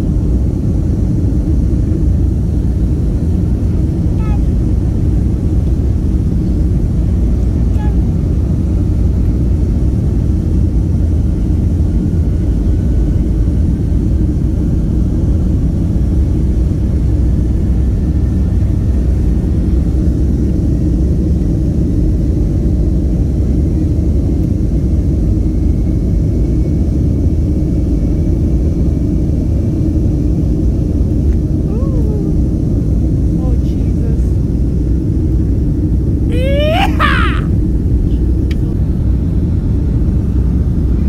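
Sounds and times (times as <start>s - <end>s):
airliner cabin rumble: 0.0s - 41.0s
faint jet engine whine: 0.0s - 41.0s.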